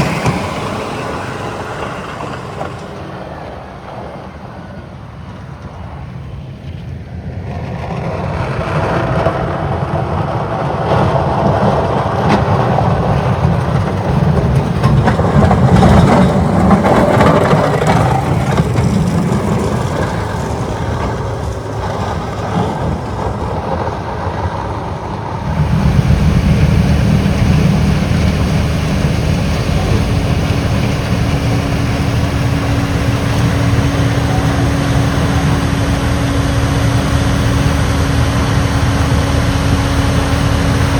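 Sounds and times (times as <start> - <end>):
motor grader diesel engines: 0.0 - 40.9
snow blower diesel drone: 0.0 - 40.9.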